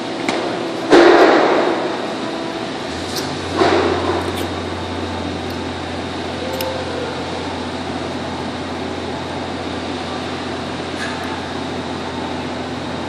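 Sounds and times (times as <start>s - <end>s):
fan-like noise: 0.0s - 13.0s
low machine hum: 0.0s - 13.0s.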